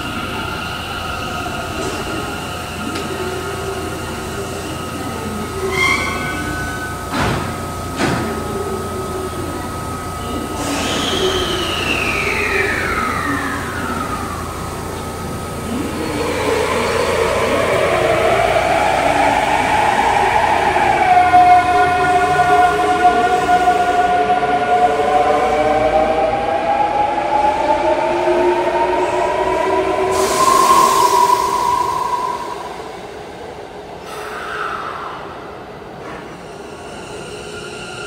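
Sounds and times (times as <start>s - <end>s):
train doors shutting: 0.0s - 38.0s.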